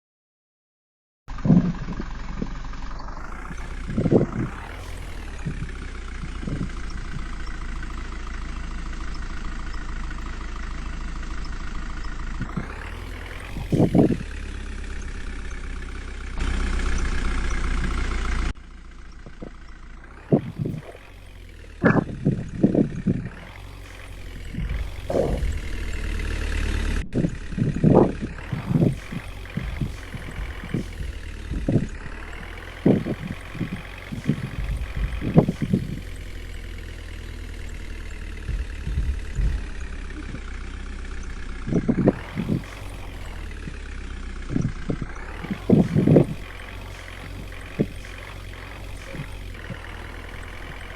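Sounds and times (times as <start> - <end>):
engine revving: 1.3 - 50.9
truck engine idling: 1.3 - 50.9.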